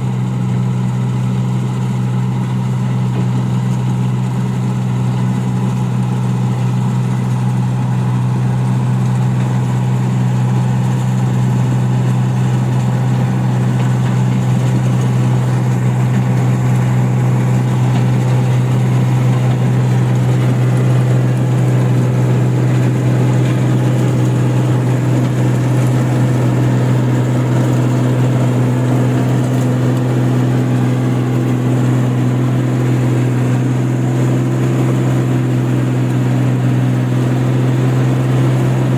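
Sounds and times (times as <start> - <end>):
machine engine humming: 0.0 - 38.9.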